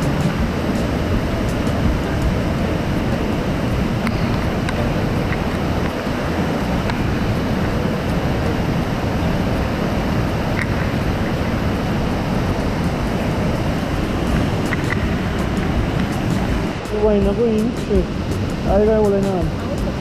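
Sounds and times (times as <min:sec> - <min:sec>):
water rushing: 0:00.0 - 0:20.0
wind on microphone: 0:00.0 - 0:20.0.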